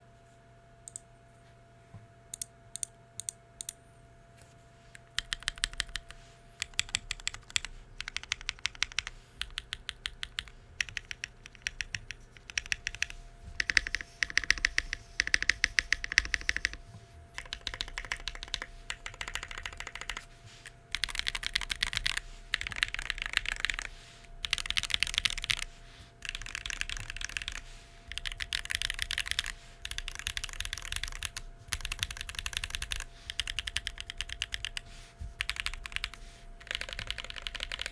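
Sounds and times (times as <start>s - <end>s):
typing on mechanical keyboard: 5.0s - 16.8s, 17.4s - 20.2s, 20.9s - 34.8s, 35.4s - 37.9s.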